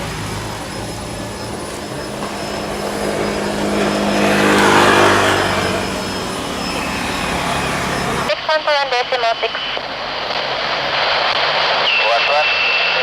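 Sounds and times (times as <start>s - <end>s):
jet airliner engines roaring: 0.0s - 13.0s.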